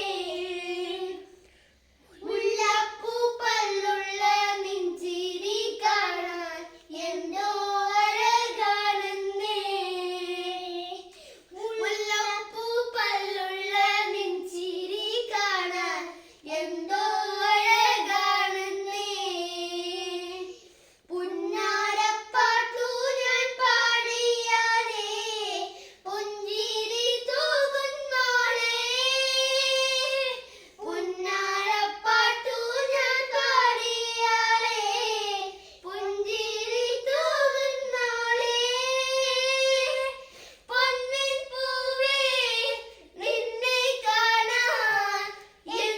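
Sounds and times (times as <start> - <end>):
children singing folk song: 0.0 - 45.9.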